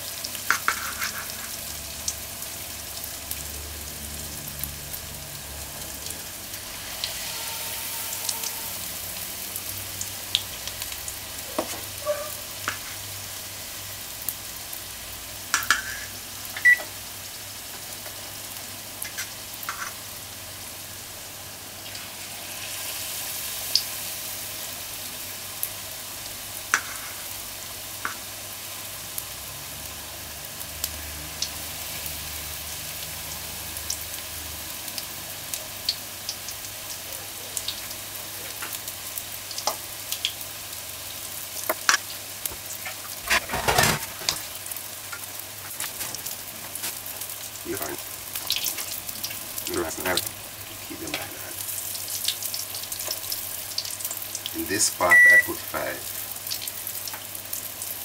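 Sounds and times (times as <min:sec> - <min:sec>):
batter frying in hot oil: 0:00.0 - 0:58.0.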